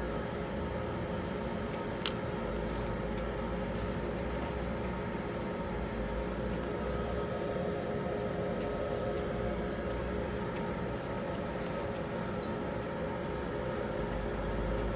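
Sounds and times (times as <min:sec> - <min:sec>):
steady machine hum: 0:00.0 - 0:14.9.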